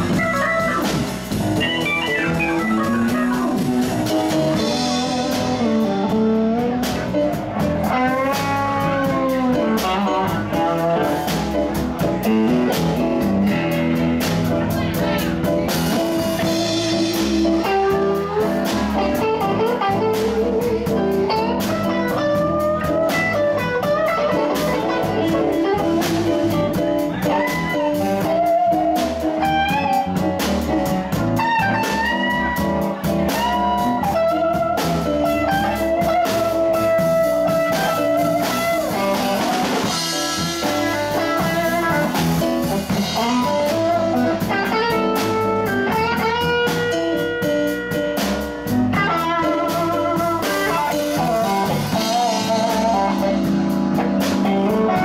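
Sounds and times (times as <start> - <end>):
blues band playing: 0.0 - 55.0
electric guitar lead: 0.0 - 55.0.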